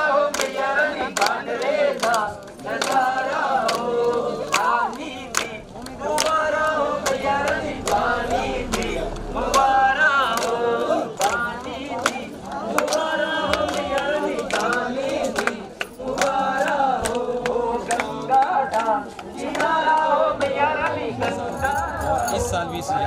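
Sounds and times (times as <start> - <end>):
group singing devotional song: 0.0 - 23.0.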